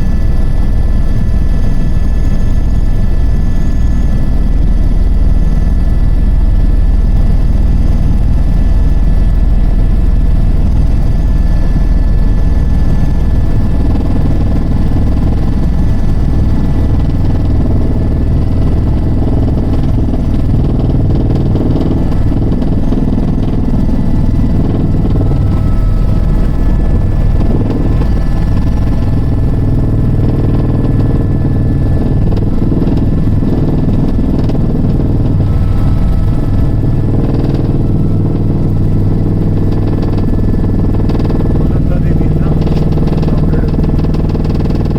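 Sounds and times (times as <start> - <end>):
helicopter drone: 0.0 - 44.9
high turbine whine: 0.0 - 44.9.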